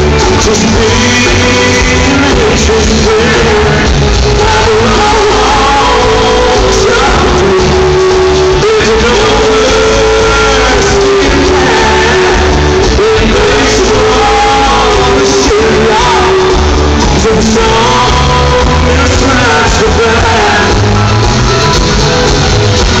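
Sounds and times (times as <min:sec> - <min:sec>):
acoustic guitar: 0:00.0 - 0:23.0
bass: 0:00.0 - 0:23.0
drums: 0:00.0 - 0:23.0
keyboards: 0:00.0 - 0:23.0
man singing lead: 0:00.0 - 0:23.0.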